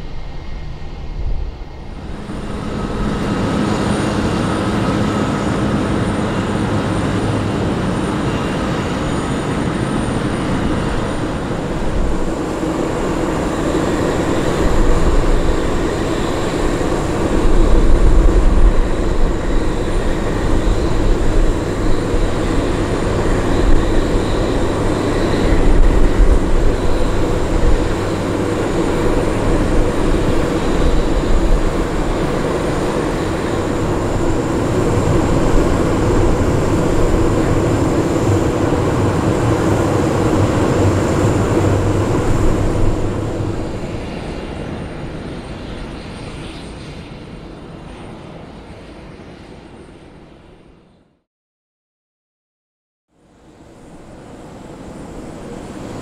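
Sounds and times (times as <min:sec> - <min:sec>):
low turbine rumble: 0:00.0 - 0:49.0
aircraft turbine whine: 0:00.0 - 0:51.2, 0:53.1 - 0:56.0.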